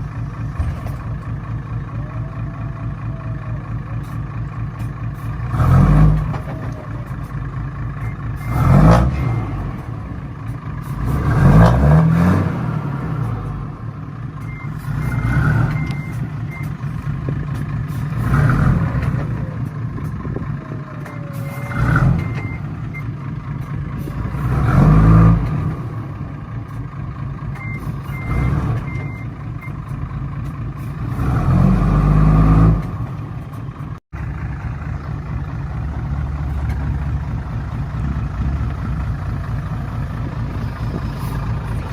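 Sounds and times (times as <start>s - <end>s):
heavy truck engine revving: 0.0s - 41.9s.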